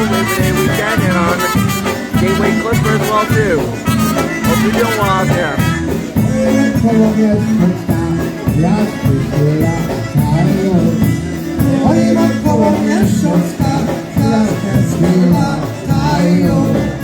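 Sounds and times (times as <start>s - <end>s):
polka band playing: 0.0s - 17.0s.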